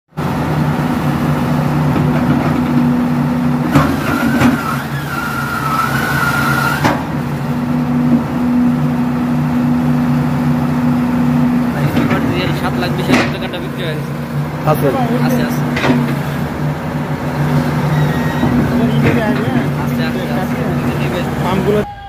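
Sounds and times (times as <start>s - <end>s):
large engine idling: 0.1s - 22.0s
high wavering whine: 0.2s - 22.0s.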